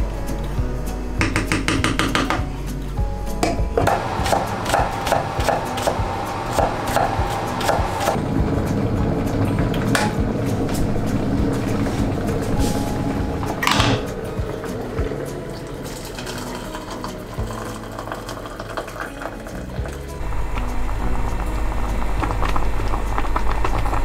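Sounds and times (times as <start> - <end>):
background music: 0.0 - 24.0.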